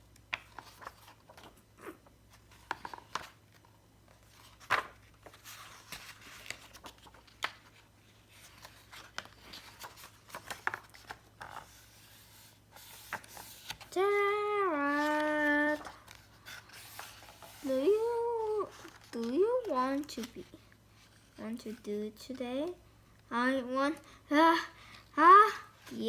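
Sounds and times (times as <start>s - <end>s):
paper rustling: 0.3s - 22.4s.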